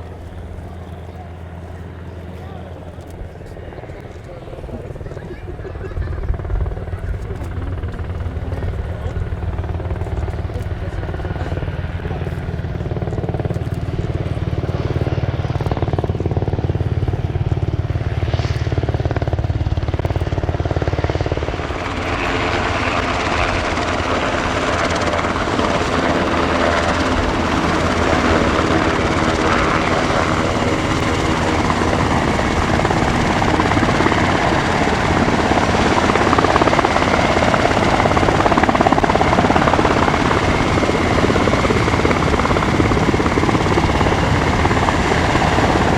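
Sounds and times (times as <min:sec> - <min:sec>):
helicopter engines and rotor: 0:00.0 - 0:45.9
turbine whine: 0:00.0 - 0:45.9.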